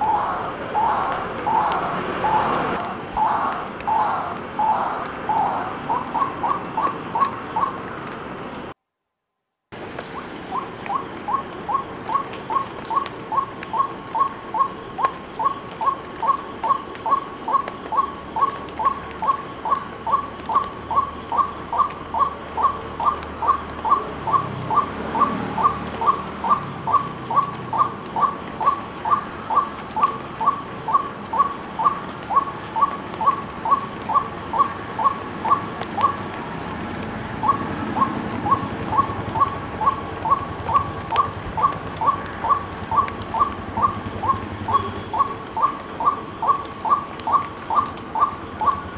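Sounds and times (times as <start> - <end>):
waterhen calling: 0.0 - 8.1, 10.1 - 36.4, 37.4 - 48.9.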